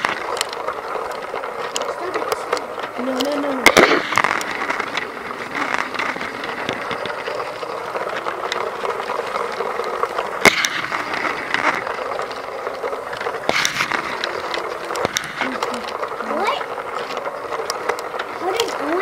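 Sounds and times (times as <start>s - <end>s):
toy train rattling on track: 0.0s - 19.0s.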